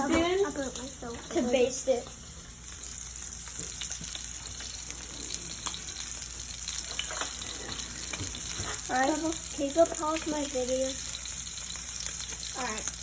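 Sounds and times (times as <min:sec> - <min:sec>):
steak sizzling in a pan: 0:00.3 - 0:13.0.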